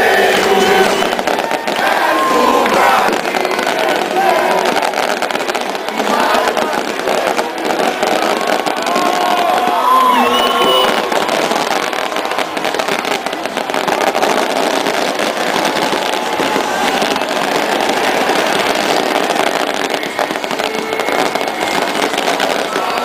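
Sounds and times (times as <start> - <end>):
crowd noise: 0.0 - 23.0
firecrackers crackling: 0.0 - 23.0.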